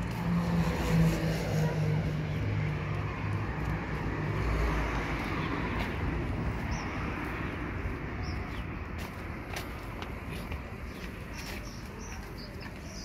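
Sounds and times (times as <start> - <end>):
street traffic noise: 0.0 - 13.0
vehicle engine rumble: 0.0 - 13.0.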